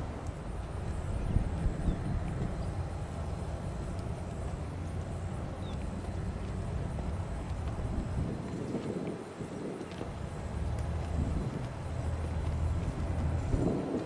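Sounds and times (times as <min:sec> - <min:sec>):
steady low rumble: 0:00.0 - 0:14.0
wind buffeting: 0:00.0 - 0:14.0.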